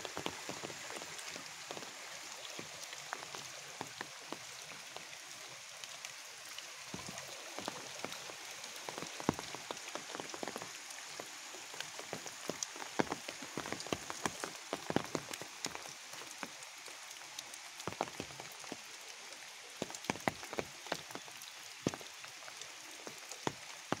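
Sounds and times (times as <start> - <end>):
rain hiss: 0.0 - 24.0
raindrops tapping: 0.0 - 24.0.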